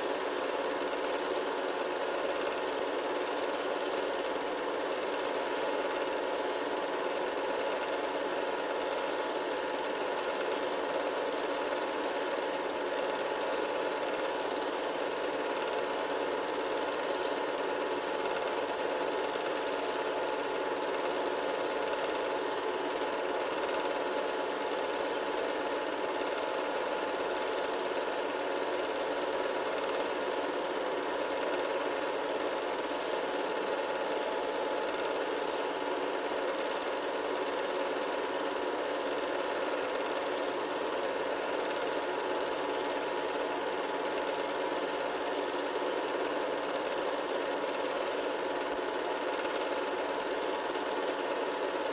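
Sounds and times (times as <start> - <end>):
film projector whirring: 0.0 - 51.9.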